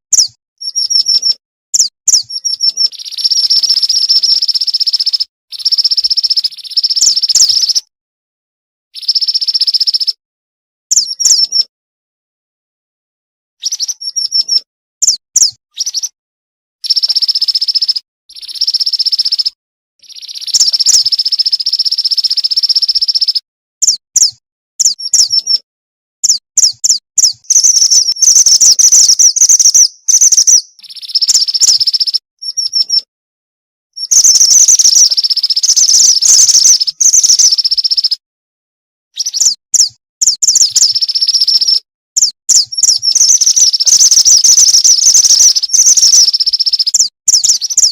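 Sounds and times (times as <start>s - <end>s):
bird chirping and buzzing: 0.1s - 7.9s, 9.0s - 10.2s, 10.9s - 11.7s, 13.6s - 16.2s, 16.8s - 25.6s, 26.2s - 33.1s, 34.0s - 38.2s, 39.2s - 47.9s.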